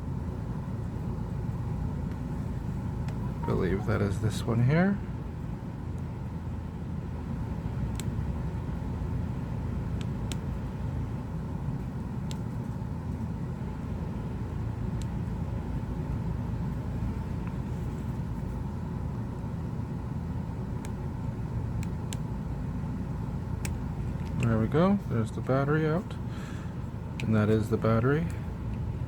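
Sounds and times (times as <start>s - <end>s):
low background rumble: 0.0s - 29.0s.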